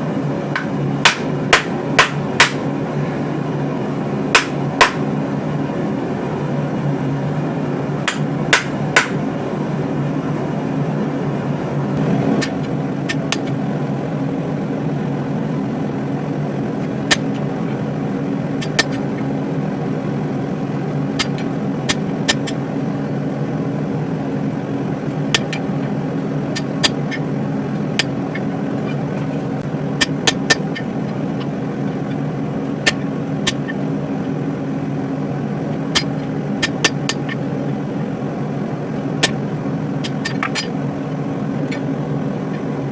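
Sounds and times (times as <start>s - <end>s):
forge mechanical hum: 0.0s - 42.9s.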